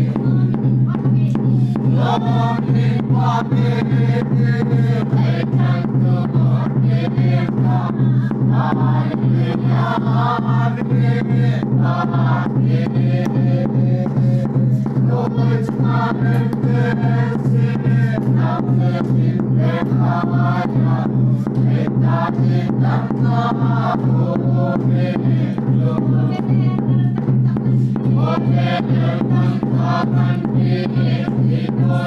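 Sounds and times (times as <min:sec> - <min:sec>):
steady drum beat: 0:00.0 - 0:32.0
congregation singing a hymn: 0:01.8 - 0:26.5, 0:27.8 - 0:32.0.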